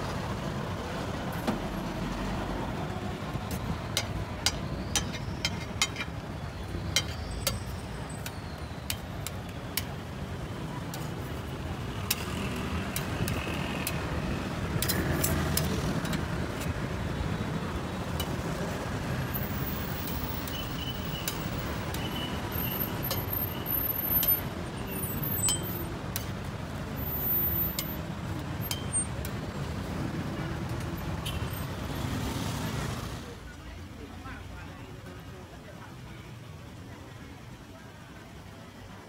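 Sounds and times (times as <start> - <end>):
street traffic rumble: 0.0 - 39.0.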